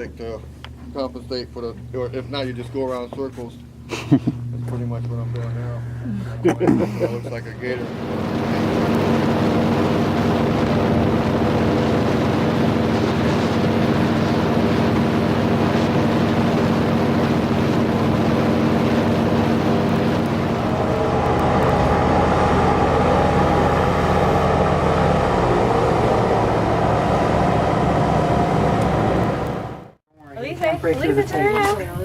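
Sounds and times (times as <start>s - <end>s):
airboat engine and propeller: 0.0s - 32.0s.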